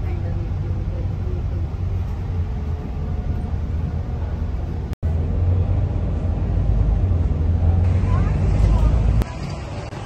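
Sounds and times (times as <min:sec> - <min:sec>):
bus engine rumble: 0:00.0 - 0:10.0.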